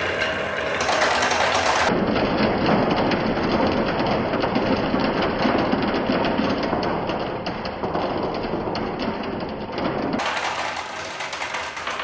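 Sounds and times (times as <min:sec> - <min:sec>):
marbles rattling on wooden track: 0:00.0 - 0:01.9, 0:03.4 - 0:12.0.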